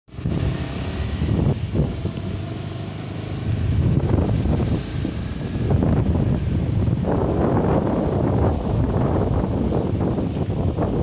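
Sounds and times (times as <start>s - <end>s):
motorcycle engine running: 0.1s - 11.0s
wind buffeting microphone: 0.1s - 11.0s.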